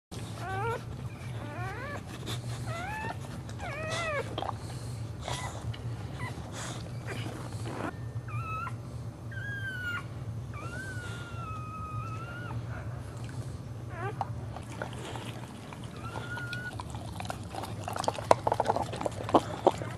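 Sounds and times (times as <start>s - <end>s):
steady low hum: 0.1s - 19.9s
newborn puppies crying: 0.2s - 4.6s, 5.4s - 12.9s, 13.9s - 19.9s.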